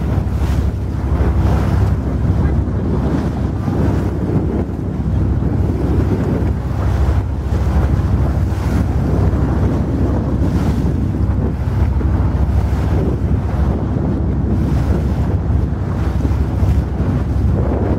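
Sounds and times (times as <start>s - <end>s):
bow wave splashing along hull: 0.0s - 17.9s
wind buffeting microphone: 0.0s - 17.9s.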